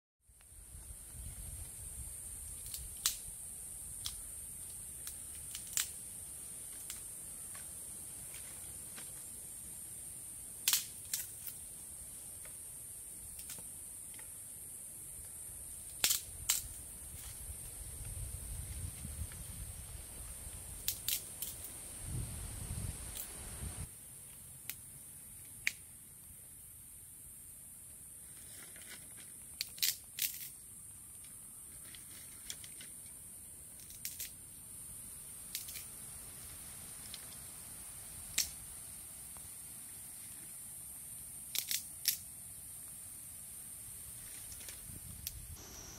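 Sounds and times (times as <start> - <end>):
steady high hiss: 0.3 - 45.9.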